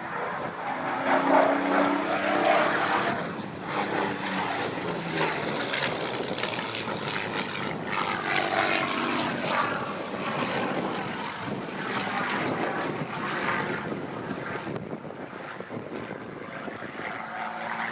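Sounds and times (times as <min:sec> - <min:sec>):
propeller aircraft engine droning: 0:00.0 - 0:17.9.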